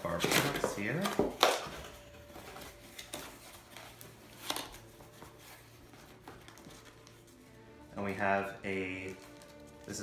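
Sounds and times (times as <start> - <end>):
soft rustling of contents: 0.0 - 10.0.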